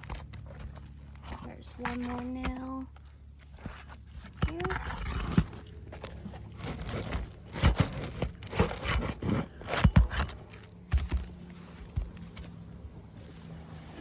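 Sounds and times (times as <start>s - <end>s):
hand tool scraping under shingles: 0.0s - 12.7s.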